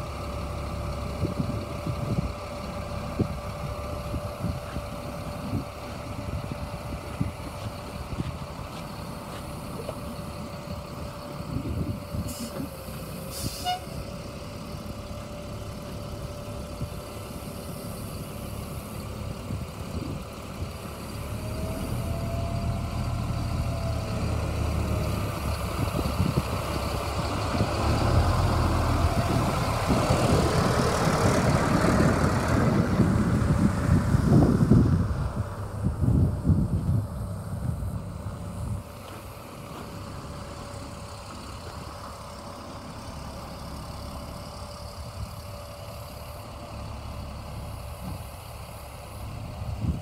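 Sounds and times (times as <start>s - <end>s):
truck engine driving past: 0.0s - 50.0s.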